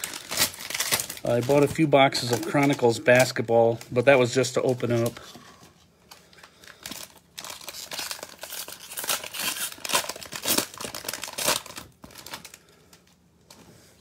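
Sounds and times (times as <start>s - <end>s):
cellophane wrapper tearing and crinkling: 0.0s - 5.2s, 6.1s - 13.2s.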